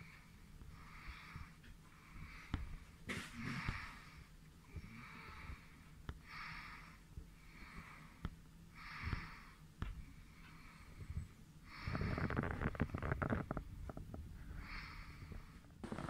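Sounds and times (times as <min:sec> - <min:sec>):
person breathing: 0:00.0 - 0:12.8, 0:14.4 - 0:16.0.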